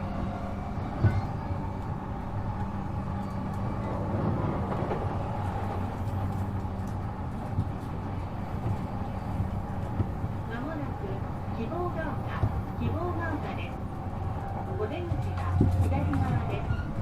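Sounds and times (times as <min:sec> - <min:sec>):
train motor hum: 0:00.0 - 0:16.9
wheels rumbling on rail: 0:00.0 - 0:17.0.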